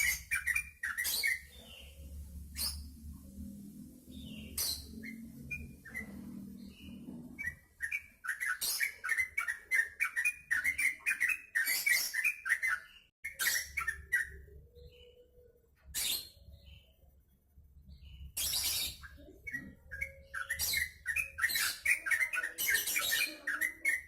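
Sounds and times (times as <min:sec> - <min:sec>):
bird singing whistled notes: 0:00.0 - 0:03.2, 0:04.1 - 0:17.0, 0:17.9 - 0:24.0.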